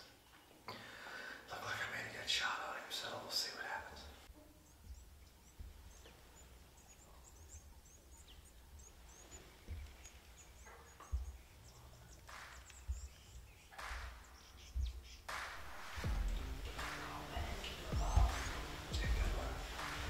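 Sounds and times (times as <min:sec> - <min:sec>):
small birds chirping: 0:00.0 - 0:20.0
bursts of hiss-like noise: 0:03.5 - 0:20.0.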